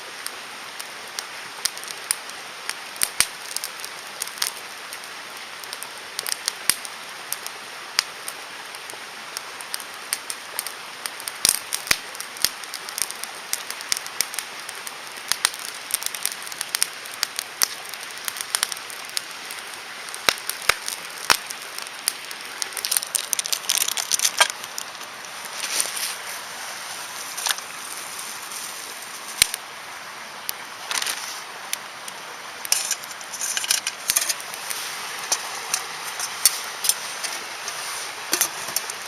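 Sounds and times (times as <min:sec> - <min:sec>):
campfire crackling: 0:00.0 - 0:39.0
fire hiss: 0:00.0 - 0:39.0
fire popping: 0:00.1 - 0:39.0.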